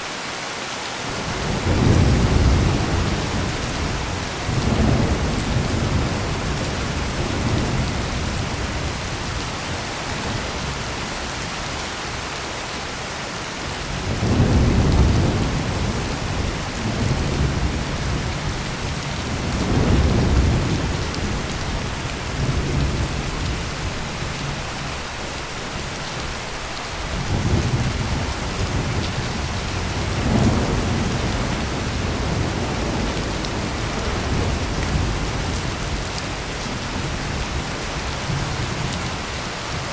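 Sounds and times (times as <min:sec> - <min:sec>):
heavy rain pouring: 0:00.0 - 0:39.9
deep thunder rumbling: 0:01.1 - 0:10.9, 0:13.9 - 0:39.1.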